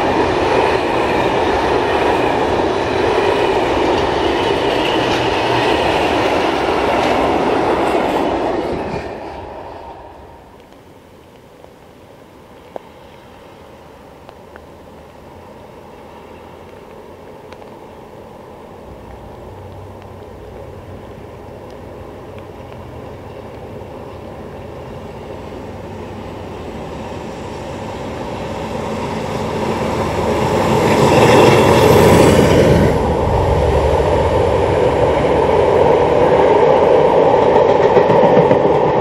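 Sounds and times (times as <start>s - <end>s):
diesel locomotive passing: 0.0s - 39.0s
train wheels rumbling on rails: 0.0s - 39.0s.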